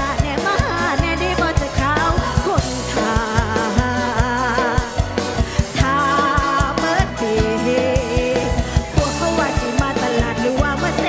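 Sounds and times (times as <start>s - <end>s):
amplified band: 0.0s - 11.0s
woman singing into microphone: 0.0s - 11.0s.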